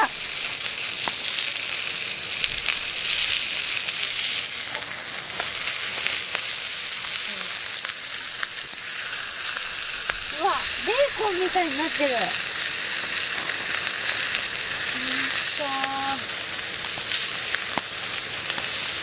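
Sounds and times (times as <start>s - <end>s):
fat popping and crackling: 0.0s - 19.0s
meat sizzling over campfire: 0.0s - 19.0s.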